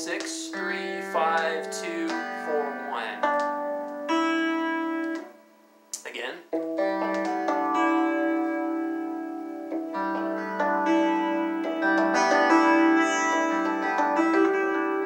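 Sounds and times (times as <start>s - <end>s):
electric guitar harmonics: 0.0s - 5.4s, 6.5s - 15.0s.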